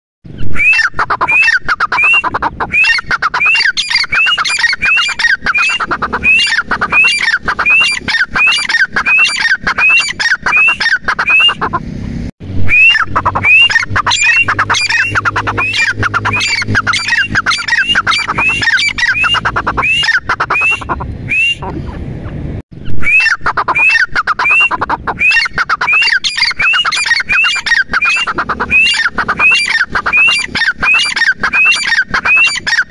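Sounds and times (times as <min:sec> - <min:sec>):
francolin calling shrilly: 0:00.4 - 0:11.8, 0:12.6 - 0:21.7, 0:22.9 - 0:32.9.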